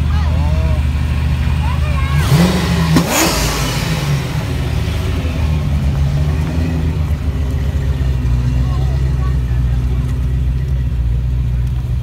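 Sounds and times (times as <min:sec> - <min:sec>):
car engine revving: 0:00.0 - 0:12.0
second car engine revving: 0:00.0 - 0:12.0.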